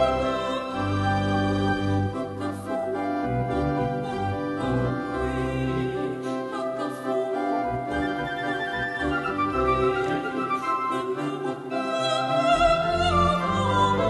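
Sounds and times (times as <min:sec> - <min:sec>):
choir singing: 0:00.0 - 0:14.0
keyboard and orchestral accompaniment: 0:00.0 - 0:14.0.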